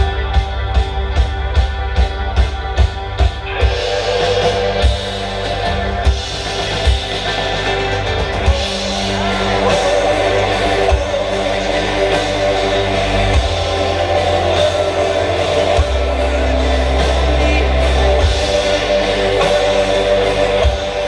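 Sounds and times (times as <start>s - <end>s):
held low bass notes: 0.0s - 21.0s
live rock band playing: 0.0s - 21.0s.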